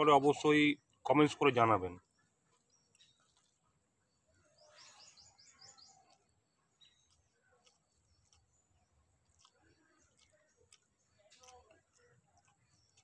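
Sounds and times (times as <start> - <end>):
faint bird chirping: 0.2 - 13.0.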